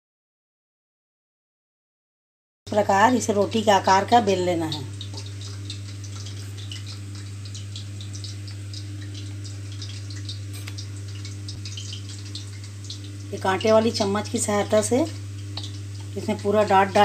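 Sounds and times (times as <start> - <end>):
low electrical hum: 2.7 - 17.0.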